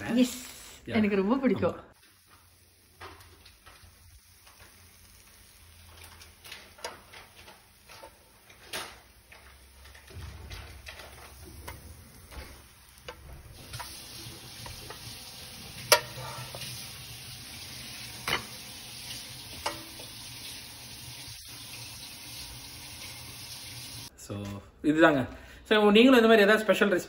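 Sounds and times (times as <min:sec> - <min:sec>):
batter sizzling: 0:01.9 - 0:24.1.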